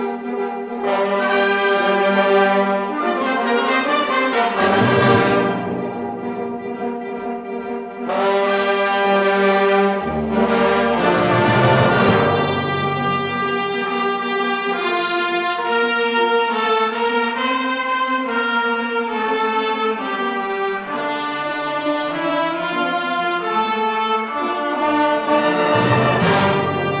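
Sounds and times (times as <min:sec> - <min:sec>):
brass band playing a slow hymn: 0:00.3 - 0:06.9, 0:08.0 - 0:27.0.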